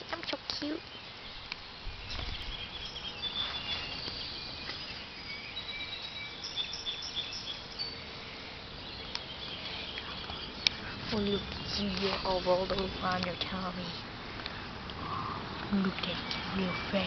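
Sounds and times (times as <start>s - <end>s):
small birds chirping: 0.0s - 17.0s
steady hiss: 0.0s - 17.0s.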